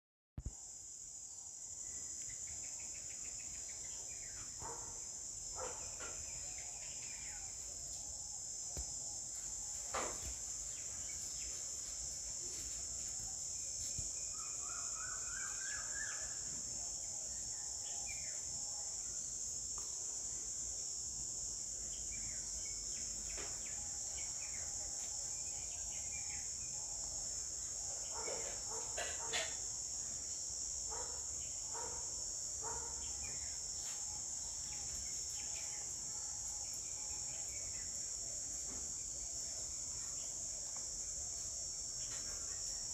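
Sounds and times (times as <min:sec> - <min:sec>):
insects droning: 0:00.4 - 0:42.9.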